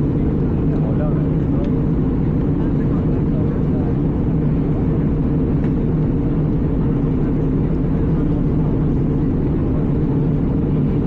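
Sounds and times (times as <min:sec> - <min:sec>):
airplane cabin engine drone: 0:00.0 - 0:11.0.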